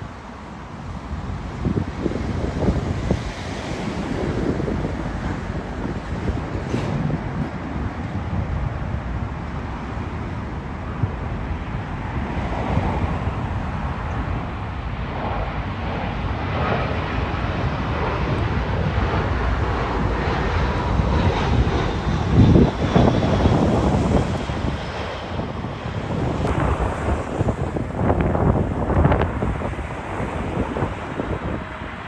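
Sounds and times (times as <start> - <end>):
jet engines roaring: 0.0 - 32.0
wind rumble on microphone: 0.0 - 32.0.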